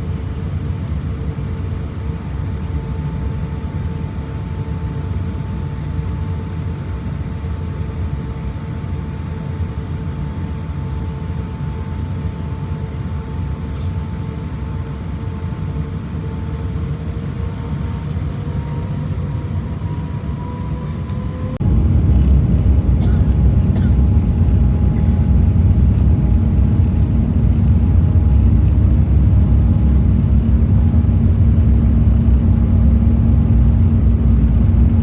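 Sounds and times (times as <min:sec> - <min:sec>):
airliner cabin rumble and hum: 0:00.0 - 0:35.0.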